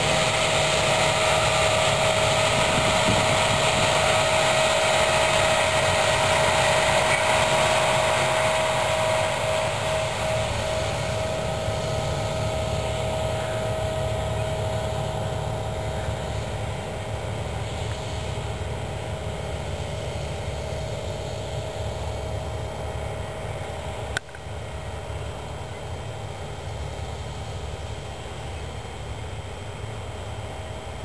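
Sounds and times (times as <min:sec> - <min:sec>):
steady whine: 0:00.0 - 0:31.0
tractor engine rumbling: 0:00.0 - 0:31.0.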